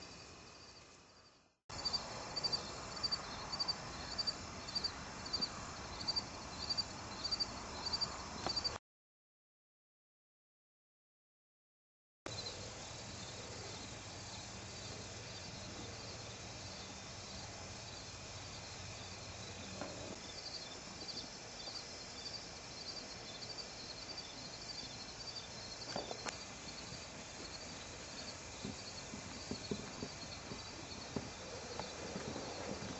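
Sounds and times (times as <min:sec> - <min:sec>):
crickets chirping: 0:00.0 - 0:08.8, 0:12.3 - 0:32.9.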